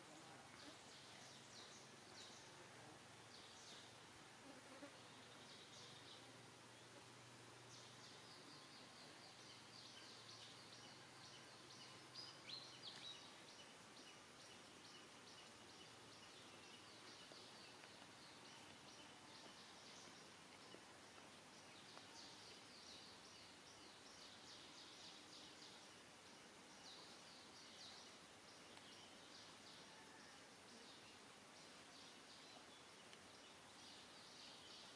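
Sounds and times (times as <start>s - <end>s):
faint outdoor ambience: 0.0s - 34.9s.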